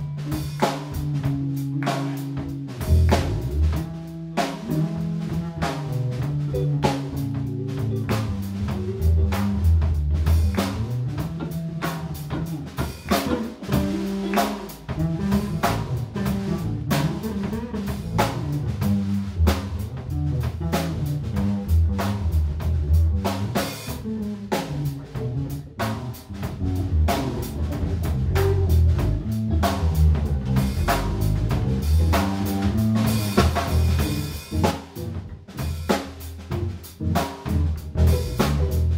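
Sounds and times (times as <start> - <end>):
bass line: 0.0 - 38.9
drum kit beat: 0.0 - 38.9
electric guitars: 0.0 - 38.9.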